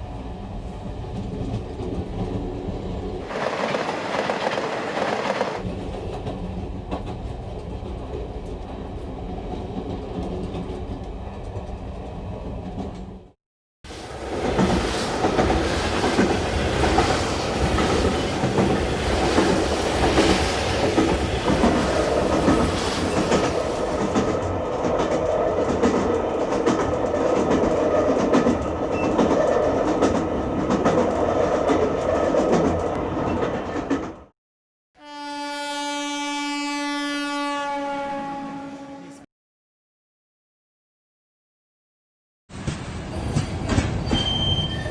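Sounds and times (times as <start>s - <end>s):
train rumble: 0.0s - 34.3s, 42.5s - 44.9s.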